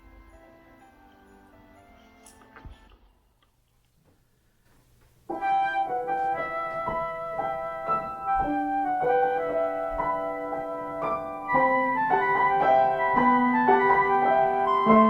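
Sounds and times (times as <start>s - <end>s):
piano playing slow hymn: 0.0s - 3.0s, 5.3s - 15.0s.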